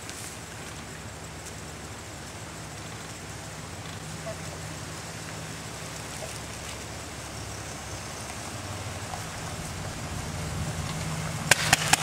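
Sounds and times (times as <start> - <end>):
background hiss: 0.0 - 12.0
car engine idling: 0.3 - 12.0.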